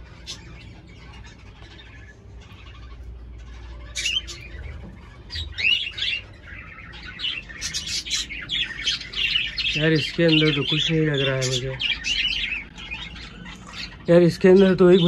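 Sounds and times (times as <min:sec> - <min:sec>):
cockatiels chirping and calling: 0:00.0 - 0:15.0.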